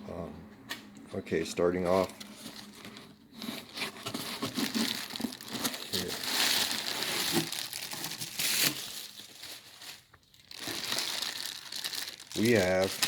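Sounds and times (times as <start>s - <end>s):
packaging crinkling and rustling: 1.8s - 13.0s.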